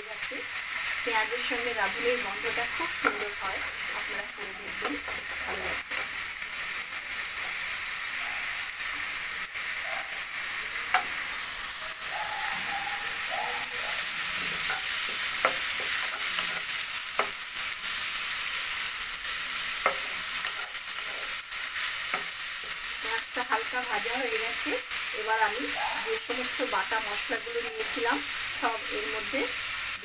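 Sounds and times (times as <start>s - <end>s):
onion frying in oil: 0.0s - 30.0s.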